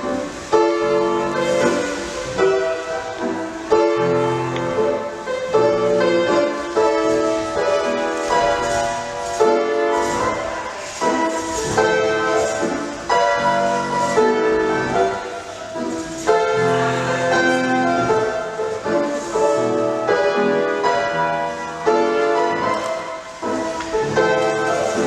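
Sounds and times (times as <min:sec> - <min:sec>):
classical piano music: 0:00.0 - 0:25.0.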